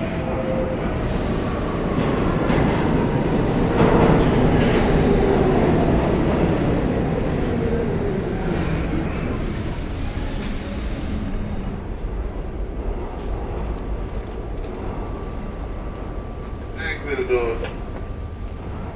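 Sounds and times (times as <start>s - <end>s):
subway train rumbling: 0.0s - 18.9s.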